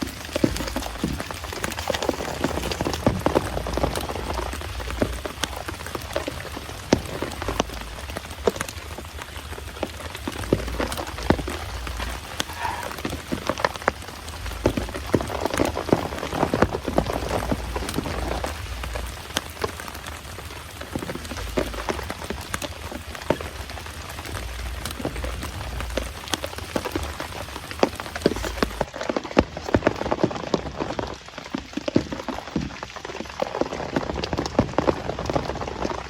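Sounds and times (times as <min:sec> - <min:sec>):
heavy rain pouring: 0:00.0 - 0:36.0
raindrops striking close by: 0:00.0 - 0:36.0.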